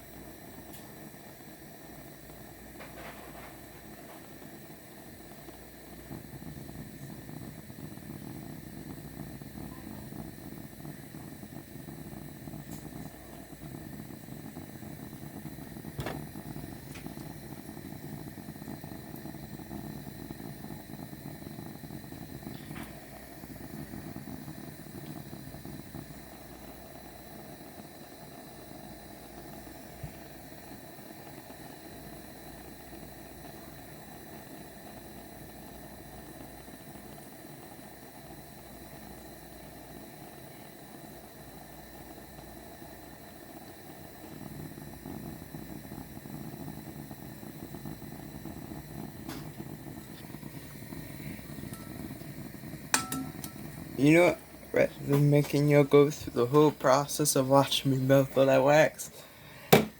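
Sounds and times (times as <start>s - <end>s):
gas torch flame rumbling: 0.0s - 59.9s.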